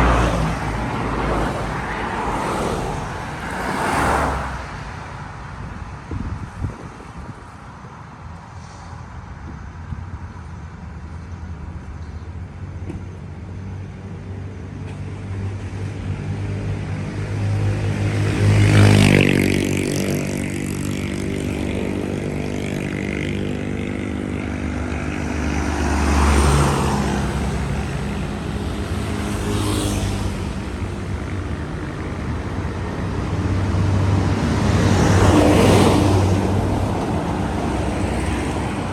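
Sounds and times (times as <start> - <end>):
vehicles passing by: 0.0 - 38.9.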